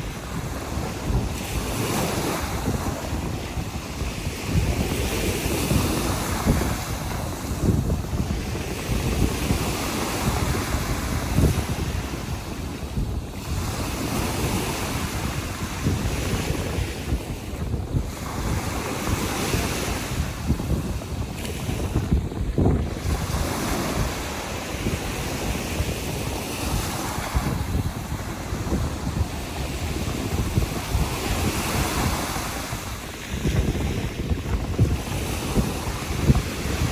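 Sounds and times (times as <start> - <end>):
surf washing on shore: 0.0 - 36.9
wind buffeting microphone: 0.0 - 36.9.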